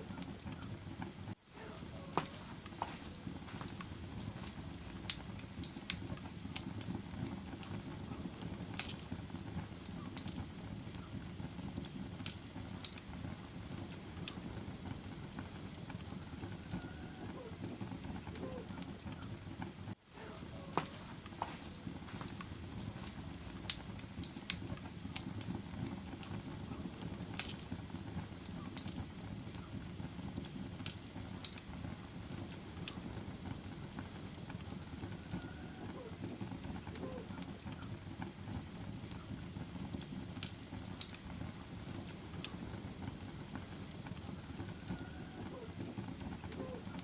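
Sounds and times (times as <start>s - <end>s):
fire crackling and popping: 0.0s - 47.0s
low rumble of burning: 0.0s - 47.0s.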